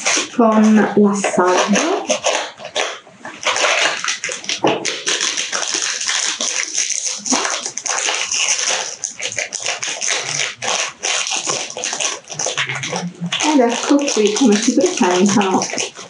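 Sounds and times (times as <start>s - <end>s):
foil pouch crinkling and tearing: 0.0s - 16.0s.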